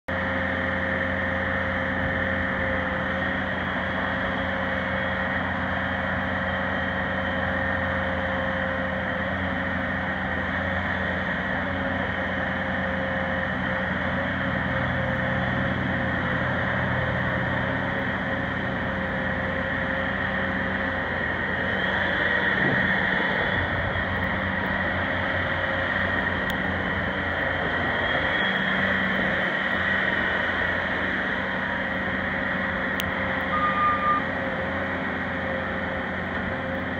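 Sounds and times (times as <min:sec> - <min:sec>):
diesel engine running: 0:00.1 - 0:36.9
steady whine: 0:00.1 - 0:36.9.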